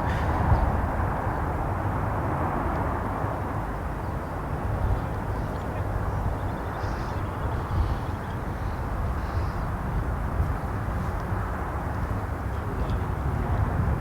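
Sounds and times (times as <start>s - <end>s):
strong wind buffeting microphone: 0.0s - 2.4s, 4.5s - 14.0s.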